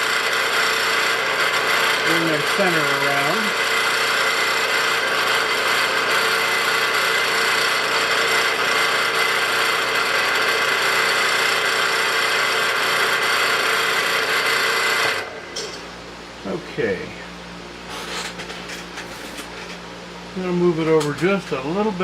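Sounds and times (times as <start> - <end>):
mill spindle motor whine: 0.0 - 22.0.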